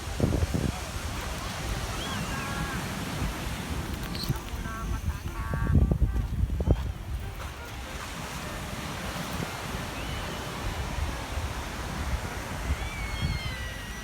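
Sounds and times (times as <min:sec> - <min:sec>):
waves washing on sand: 0:00.0 - 0:14.0
wind buffeting microphone: 0:00.0 - 0:14.0.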